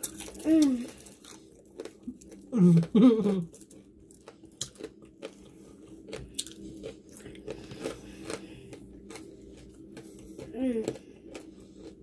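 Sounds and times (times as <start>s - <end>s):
person crunching fried pork: 0.0s - 10.2s.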